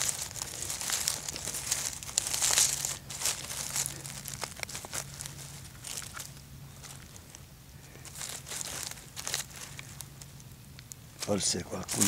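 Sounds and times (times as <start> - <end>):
hand rustling dry pine needles: 0.0 - 12.0.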